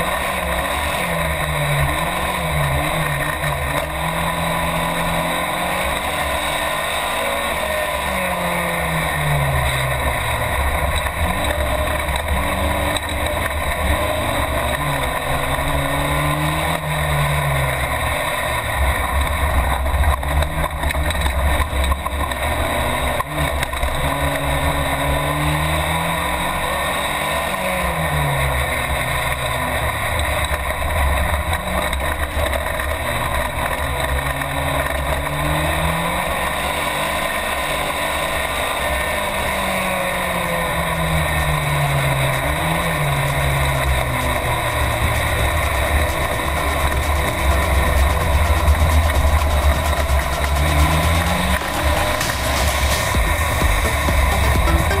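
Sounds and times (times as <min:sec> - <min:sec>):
race car engine revving: 0:00.0 - 0:55.0
road noise: 0:00.0 - 0:55.0.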